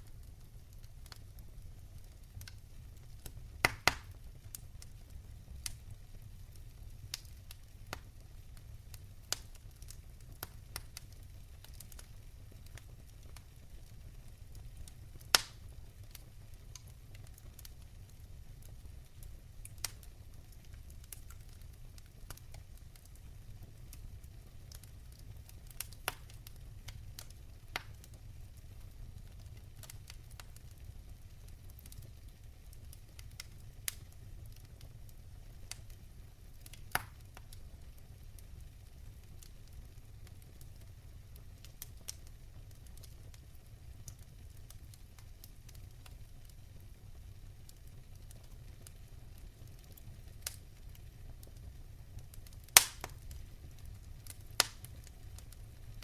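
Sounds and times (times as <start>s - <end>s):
low steady fire rumble: 0.0s - 56.0s
wood fire crackling and popping: 0.0s - 56.0s.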